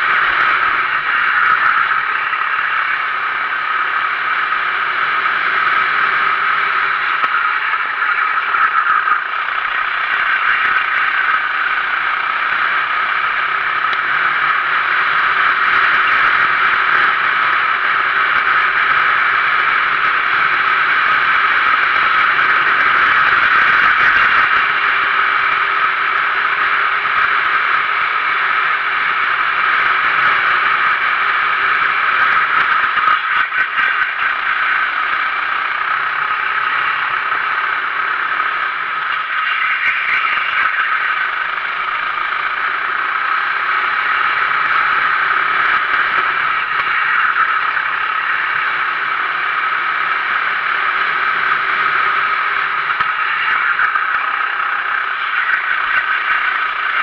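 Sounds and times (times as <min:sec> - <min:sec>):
chassis rattle: 0:00.0 - 0:57.0
kart engine running: 0:00.0 - 0:57.0.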